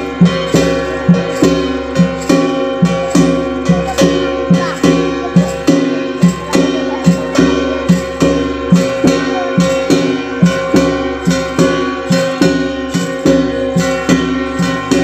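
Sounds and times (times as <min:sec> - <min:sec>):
folk drums beating: 0:00.0 - 0:15.0.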